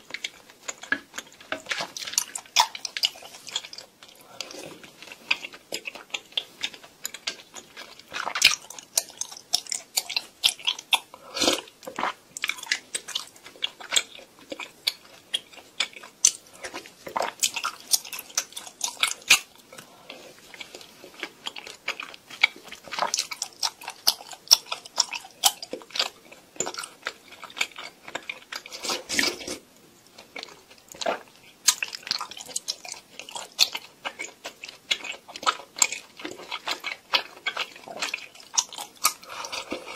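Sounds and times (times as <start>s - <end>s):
close chewing mouth clicks: 0.0s - 39.9s.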